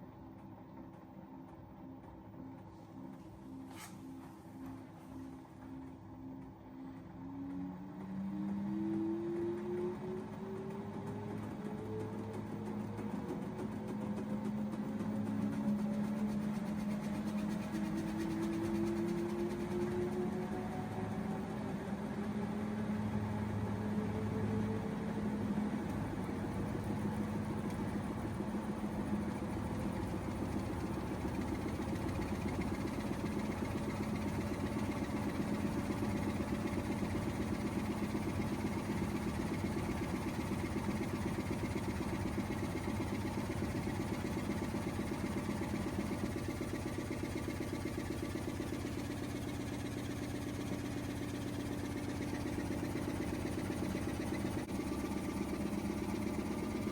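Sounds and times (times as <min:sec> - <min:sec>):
washing machine drum motor hum: 0:00.0 - 0:56.9.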